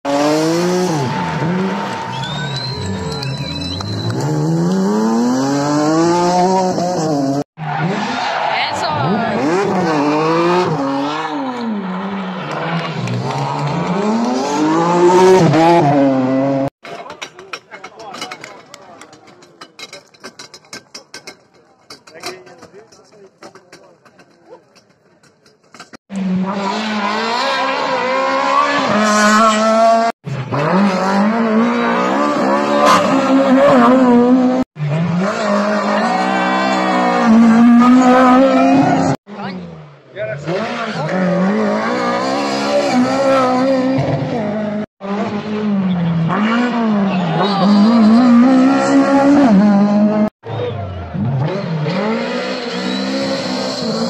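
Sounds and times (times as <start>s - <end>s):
rally car engine revving: 0.1s - 16.7s, 25.9s - 50.3s, 51.0s - 54.0s.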